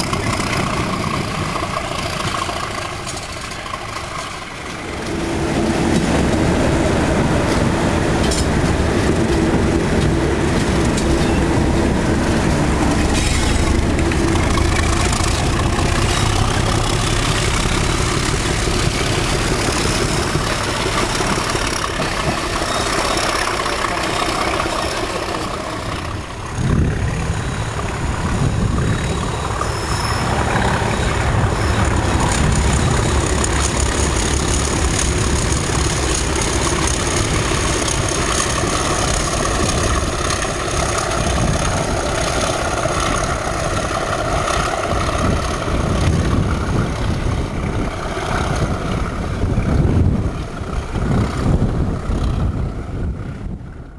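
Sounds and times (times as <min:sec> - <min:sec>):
diesel locomotives passing: 0:00.0 - 0:53.9
wagons rolling on rails: 0:00.0 - 0:53.9.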